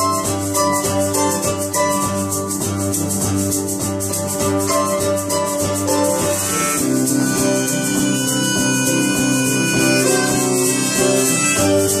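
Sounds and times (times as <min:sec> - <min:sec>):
rattling percussion rhythm: 0:00.0 - 0:12.0
strummed acoustic guitar: 0:00.0 - 0:12.0.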